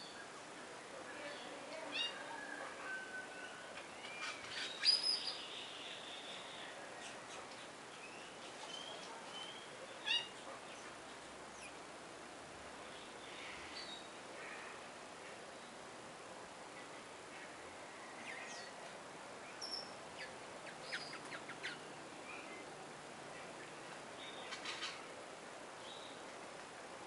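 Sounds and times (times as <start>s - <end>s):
wild birds chirping: 0.0s - 26.6s.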